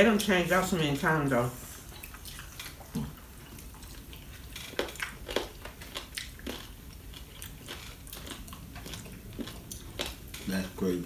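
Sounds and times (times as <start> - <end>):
quiet chewing: 1.7 - 11.0.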